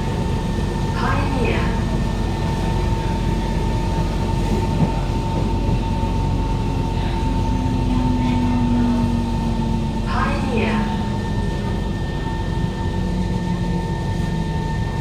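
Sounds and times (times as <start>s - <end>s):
high electric whine: 0.0s - 15.0s
low steady hum: 0.0s - 15.0s
metro train rumble: 0.0s - 15.0s.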